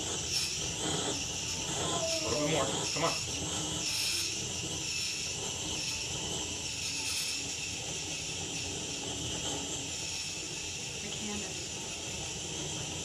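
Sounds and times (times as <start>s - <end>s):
propane torch hissing roar: 0.0s - 13.0s.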